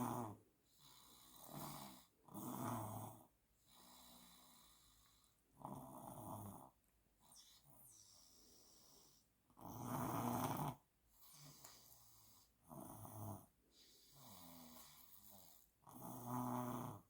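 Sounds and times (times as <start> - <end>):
toddler snoring: 0.0 - 17.0.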